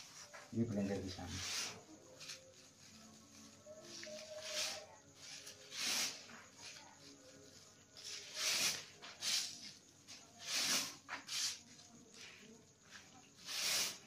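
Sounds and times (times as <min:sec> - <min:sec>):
plastic strands rasping and rustling: 0:00.0 - 0:12.4.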